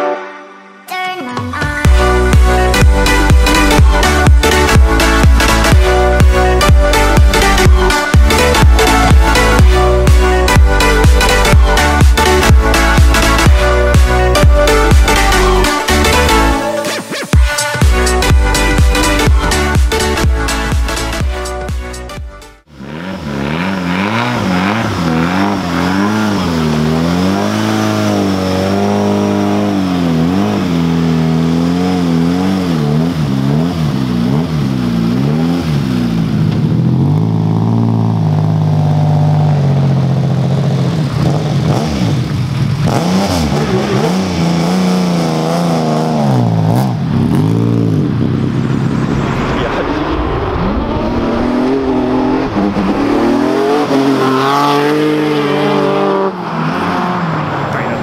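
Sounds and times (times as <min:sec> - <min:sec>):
car engine revving: 0:01.9 - 0:16.7, 0:17.4 - 0:58.0.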